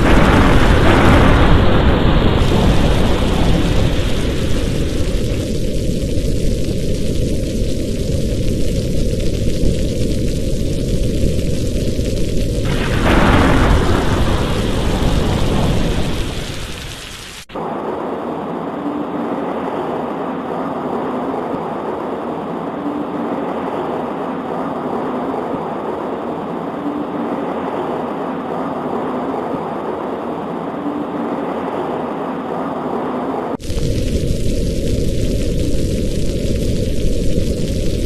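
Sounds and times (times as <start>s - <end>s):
rain pattering on a window: 0.0s - 32.6s, 33.5s - 38.0s
rolling thunder rumble: 0.0s - 38.0s.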